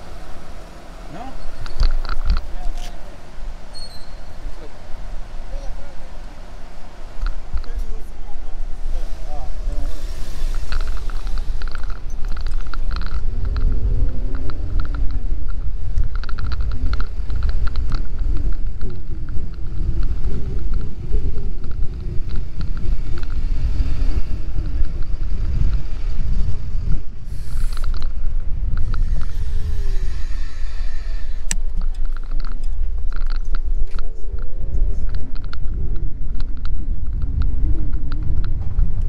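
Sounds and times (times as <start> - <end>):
electric scooter whine: 0.0 - 39.0
wind rumble on microphone: 0.0 - 39.0.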